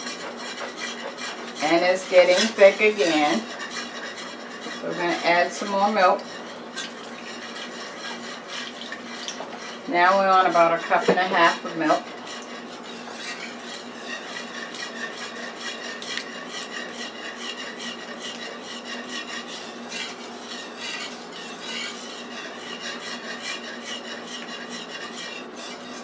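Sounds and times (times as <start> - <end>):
whisk scraping metal skillet: 0.0 - 26.0.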